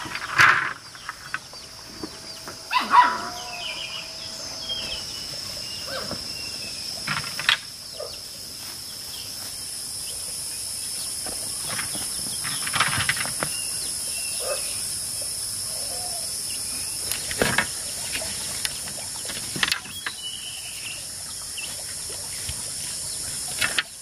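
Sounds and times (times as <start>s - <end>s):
birds chirping: 0.0s - 24.0s
insects droning: 0.0s - 24.0s.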